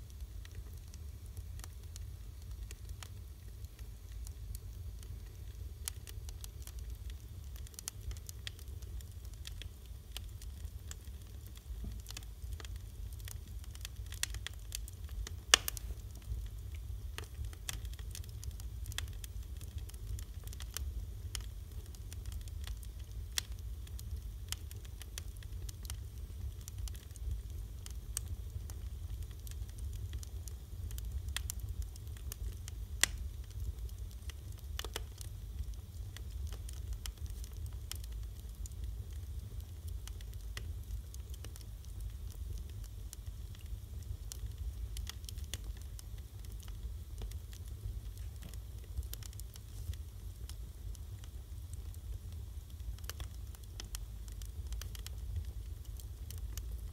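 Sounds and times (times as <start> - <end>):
logs crackling and popping: 0.0 - 56.9
low fire rumble: 0.0 - 56.9.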